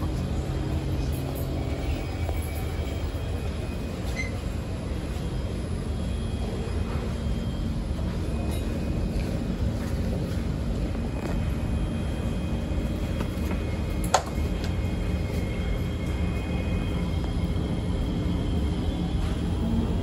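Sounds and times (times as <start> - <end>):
train interior rumble and hum: 0.0 - 20.0.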